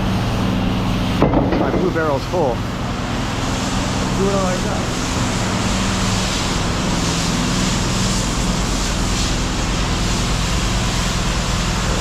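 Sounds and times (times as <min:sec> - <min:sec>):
engine humming with hiss: 0:00.0 - 0:12.0.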